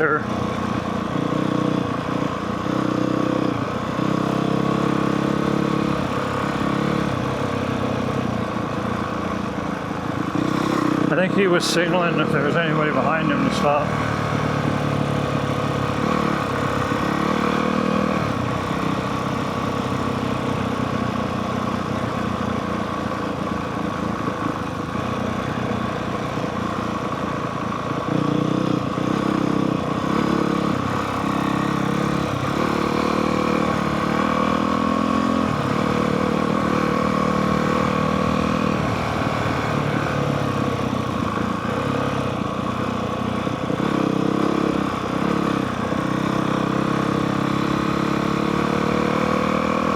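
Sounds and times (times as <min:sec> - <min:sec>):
dirt bike engine running: 0:00.0 - 0:49.9.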